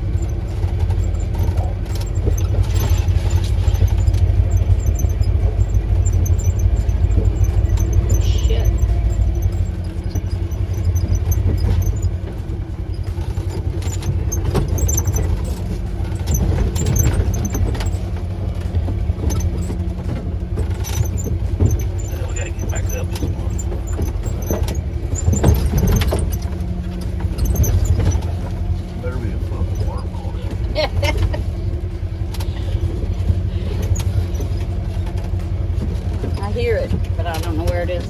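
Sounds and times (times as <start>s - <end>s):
utility vehicle engine running: 0.0s - 38.0s
vehicle knocks and rattles: 0.0s - 38.0s.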